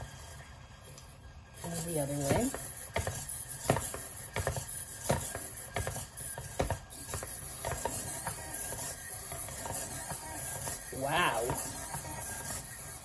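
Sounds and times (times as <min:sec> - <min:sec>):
toy robot steps tapping: 0:01.6 - 0:13.0.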